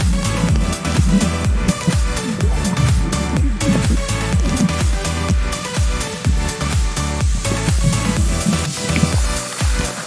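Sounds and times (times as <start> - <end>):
punchy kick drum: 0.0 - 9.3
electronic dance music: 0.0 - 10.0.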